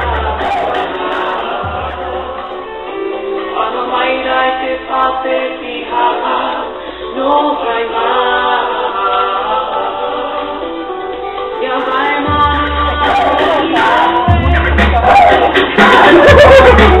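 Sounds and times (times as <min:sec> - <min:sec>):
music with singing voices: 0:00.0 - 0:17.0.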